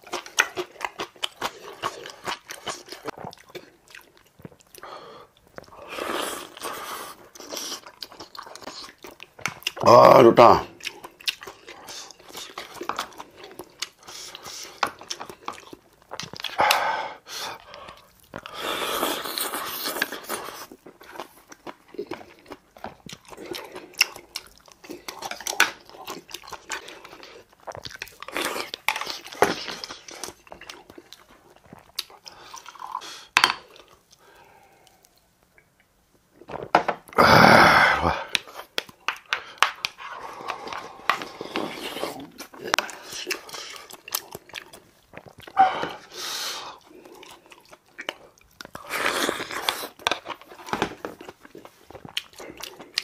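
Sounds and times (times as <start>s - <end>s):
chewing and crunching: 0.0s - 36.6s, 38.3s - 53.0s.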